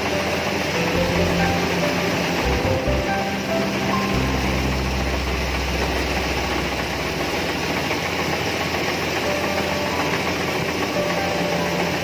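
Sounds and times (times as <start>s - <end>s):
combine harvester engine drone: 0.0s - 12.0s
low hum: 0.0s - 12.0s.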